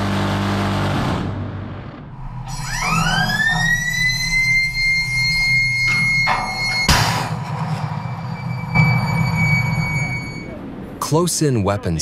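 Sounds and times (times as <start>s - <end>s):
missile launcher whine: 0.0s - 11.0s.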